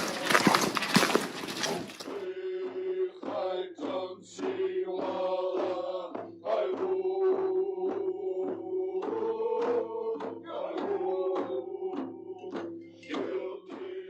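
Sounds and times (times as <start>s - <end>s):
voices singing a chant-like song: 0.0s - 14.0s.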